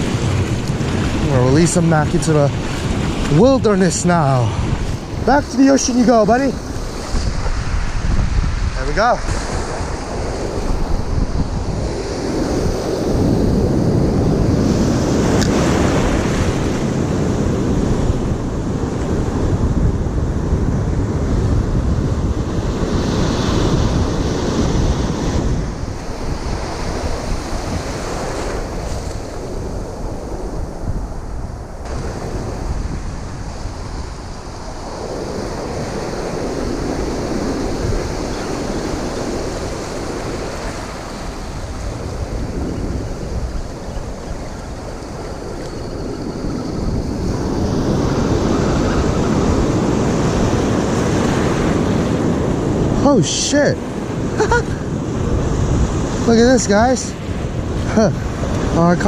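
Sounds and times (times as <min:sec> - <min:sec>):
ocean surf breaking: 0:00.0 - 0:59.0
wind buffeting microphone: 0:00.0 - 0:59.0.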